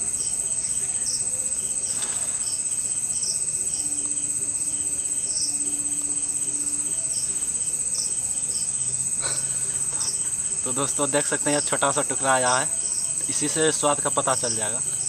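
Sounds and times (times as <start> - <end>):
crickets chirping trill: 0.0 - 15.0
insect short chirps: 0.0 - 15.0.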